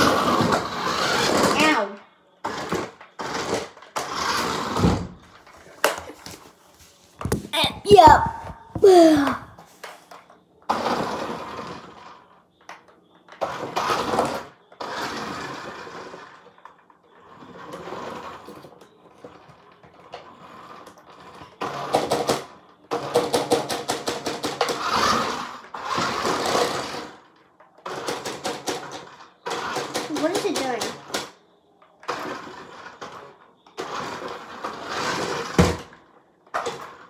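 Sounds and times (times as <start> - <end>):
toy motor and gears whirring: 0.0 - 5.6, 8.8 - 31.4, 32.0 - 37.0.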